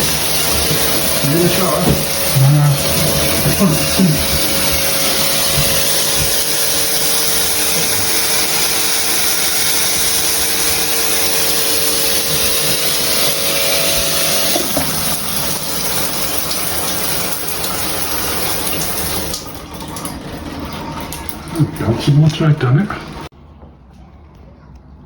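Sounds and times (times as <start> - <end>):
shower water spraying: 0.0 - 23.3.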